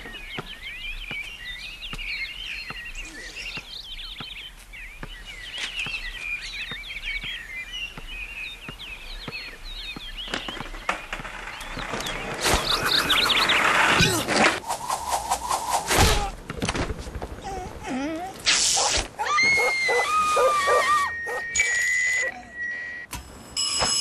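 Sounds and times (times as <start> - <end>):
small birds chirping: 0.0 - 15.9, 17.3 - 23.0.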